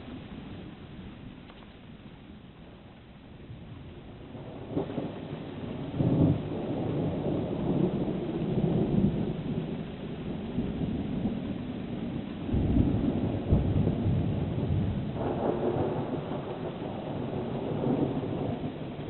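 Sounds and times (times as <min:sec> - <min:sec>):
thunder rolling and rumbling: 0:03.4 - 0:19.0.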